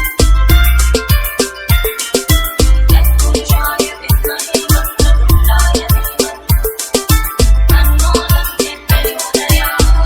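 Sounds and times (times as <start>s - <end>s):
dance music with deep bass: 0.0s - 10.0s.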